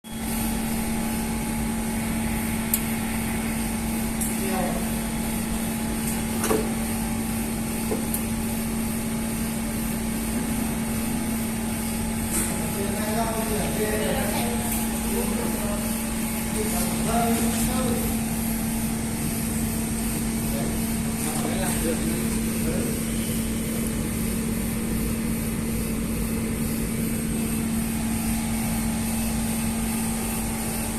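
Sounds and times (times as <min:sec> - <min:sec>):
low electrical hum: 0:00.1 - 0:30.9.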